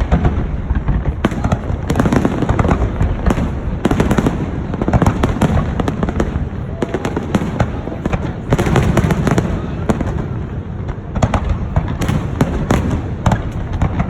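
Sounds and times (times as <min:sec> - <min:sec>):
fireworks bursts and crackles: 0:00.0 - 0:14.0.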